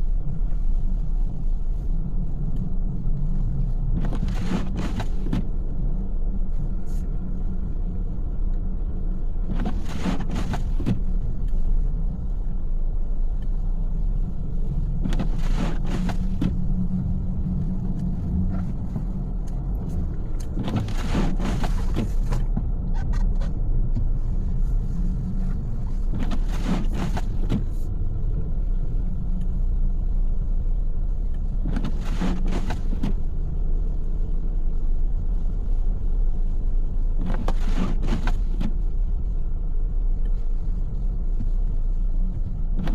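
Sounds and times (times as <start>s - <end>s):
car road and engine rumble: 0.0s - 42.9s
windshield wiper sweep: 0.4s - 7.6s, 9.4s - 29.7s, 31.0s - 34.7s, 35.3s - 42.9s.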